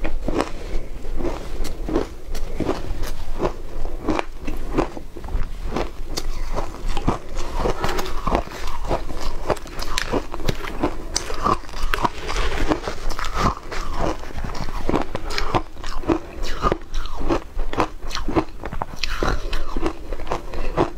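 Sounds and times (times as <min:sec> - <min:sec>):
crunching and chewing ice: 0:00.0 - 0:20.9.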